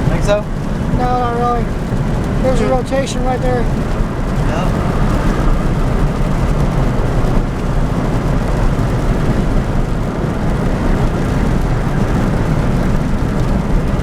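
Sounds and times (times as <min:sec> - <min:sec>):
truck rumbling from inside cab: 0:00.0 - 0:14.0.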